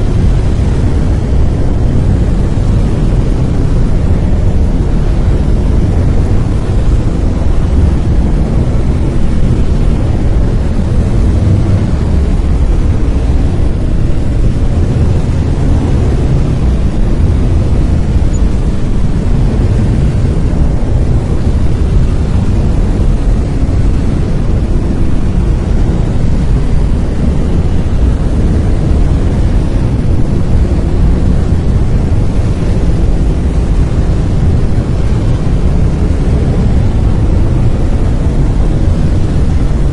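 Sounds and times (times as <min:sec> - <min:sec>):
brown noise deep rumbling hiss: 0:00.0 - 0:39.9.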